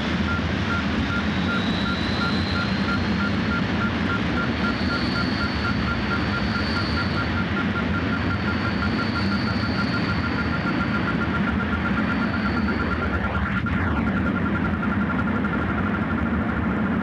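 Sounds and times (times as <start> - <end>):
rapid electronic beeping: 0.1 - 17.0.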